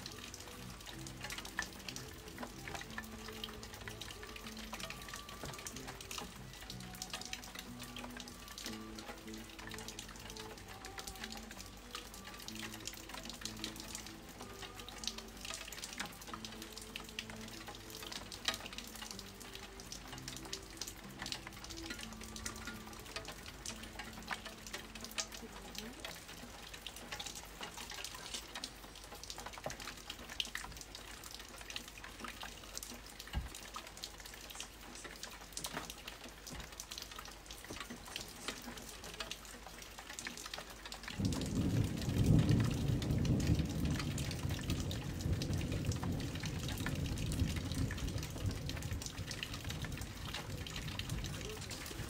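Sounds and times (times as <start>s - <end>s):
rain drops pattering: 0.0s - 52.0s.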